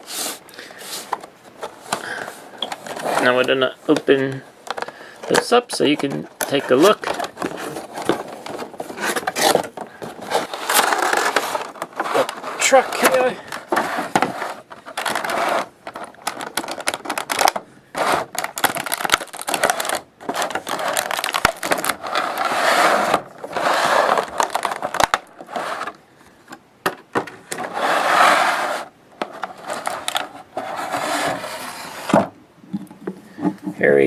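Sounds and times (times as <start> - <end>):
cardboard and wrapping rustling: 0.0 - 32.4.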